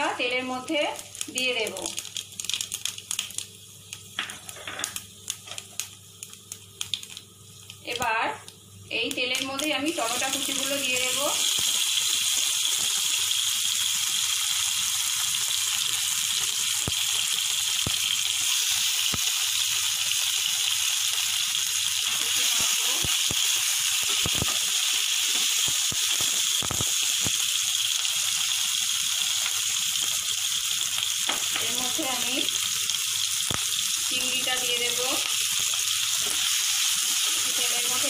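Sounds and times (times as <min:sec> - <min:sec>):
tomatoes sizzling in oil: 0:00.0 - 0:38.0.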